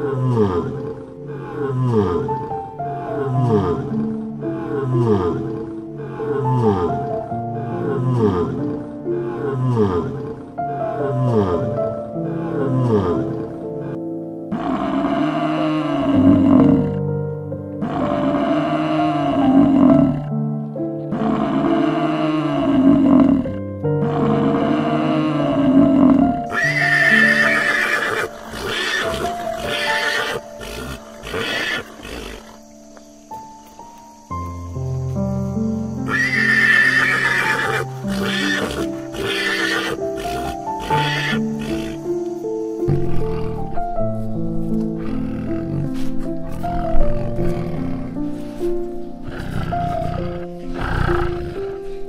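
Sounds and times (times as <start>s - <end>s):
tiger calling: 0.0s - 17.2s, 17.8s - 20.4s, 21.0s - 33.0s, 35.8s - 43.9s, 49.2s - 51.8s
background music with held notes: 0.0s - 52.0s.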